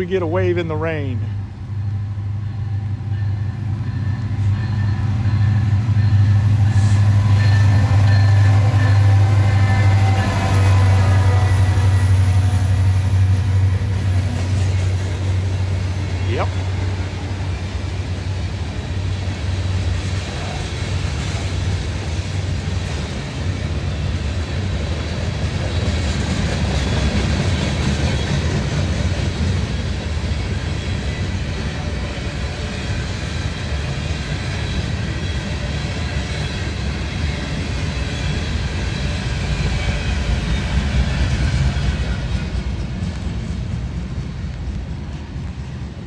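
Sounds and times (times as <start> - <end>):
freight train rumbling on rails: 0.0 - 46.0.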